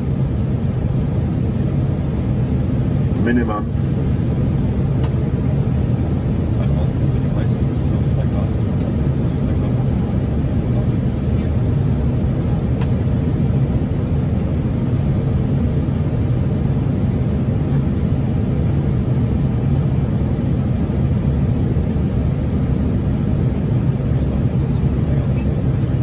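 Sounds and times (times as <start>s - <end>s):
cockpit airflow rumble: 0.0s - 26.0s.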